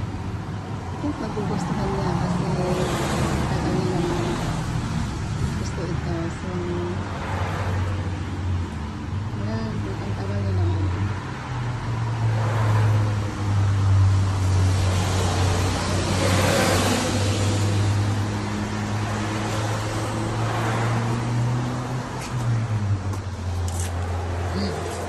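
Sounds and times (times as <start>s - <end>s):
cars passing on wet street: 0.0s - 25.0s.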